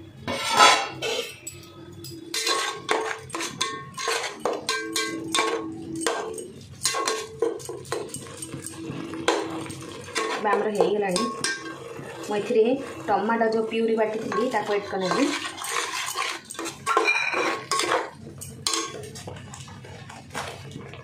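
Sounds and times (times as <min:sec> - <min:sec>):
metal spoon scraping steel pot: 0:00.2 - 0:20.9.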